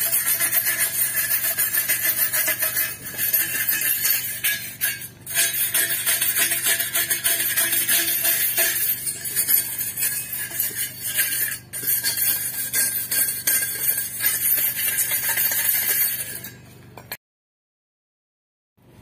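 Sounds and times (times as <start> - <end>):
wire brush scrubbing rusty steel: 0.0 - 17.2.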